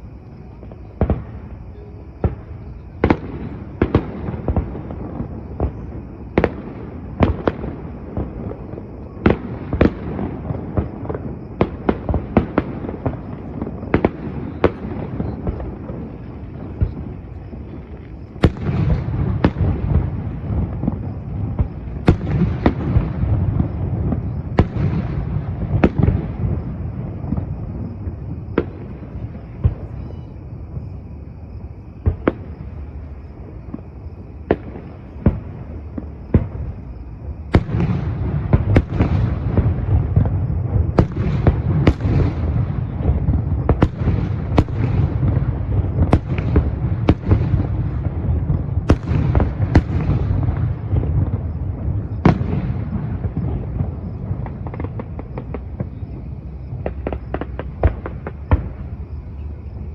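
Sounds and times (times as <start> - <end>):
continuous rumble: 0.0 - 59.9
barrage of firework bangs: 0.9 - 31.0, 31.9 - 59.2.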